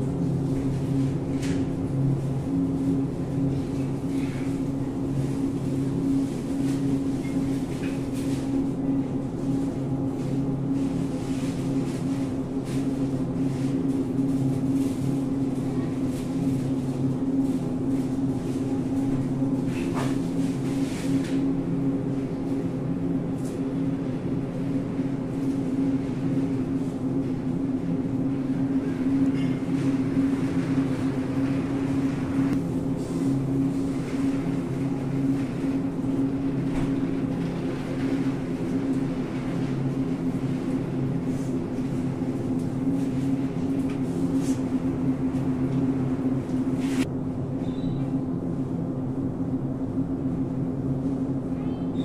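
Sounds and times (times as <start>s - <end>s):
low refrigeration hum: 0.0s - 52.0s.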